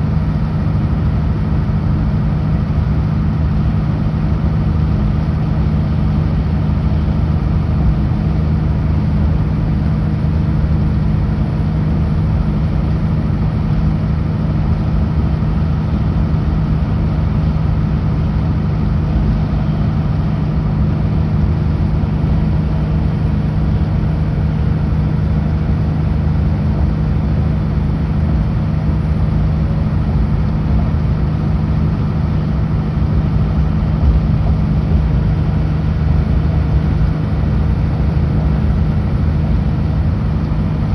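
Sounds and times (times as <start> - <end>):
road rumble: 0.0 - 40.9
truck diesel engine running: 0.0 - 40.9.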